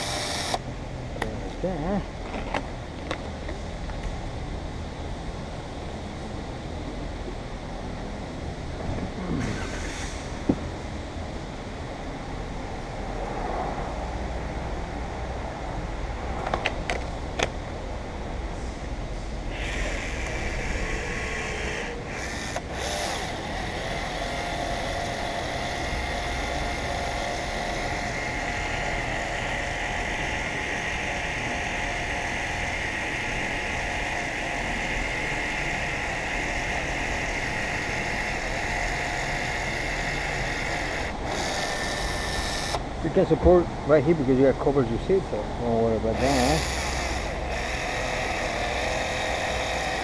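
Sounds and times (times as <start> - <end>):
mechanical whir with high whine: 0.0 - 44.3, 45.3 - 50.0.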